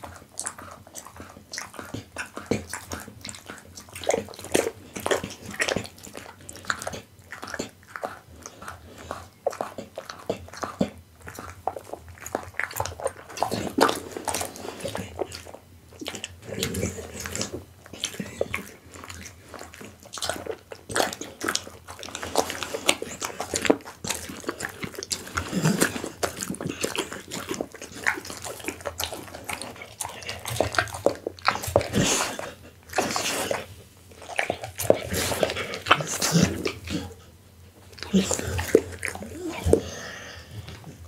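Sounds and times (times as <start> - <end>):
dog chewing meat: 0.0 - 41.0
dog licking: 0.0 - 41.0.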